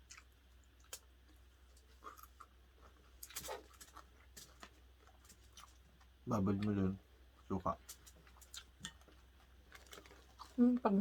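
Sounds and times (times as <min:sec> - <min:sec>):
faint eating noises: 0:00.0 - 0:11.0.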